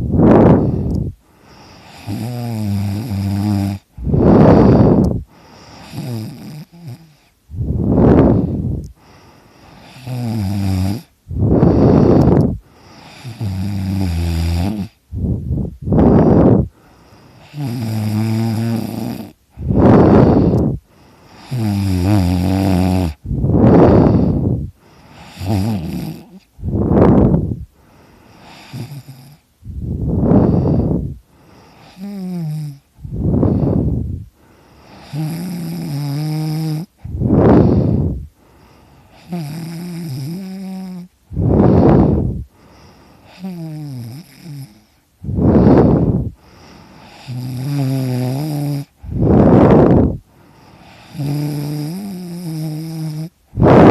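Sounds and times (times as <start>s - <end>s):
person snoring heavily: 0.0s - 53.9s.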